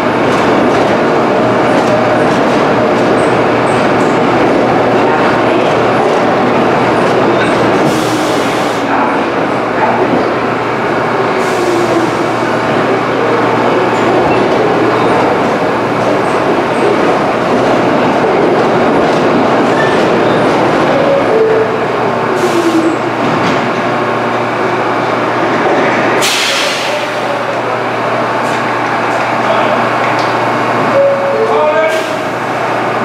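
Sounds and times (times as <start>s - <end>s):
subway train wheels and motors: 0.0s - 33.0s.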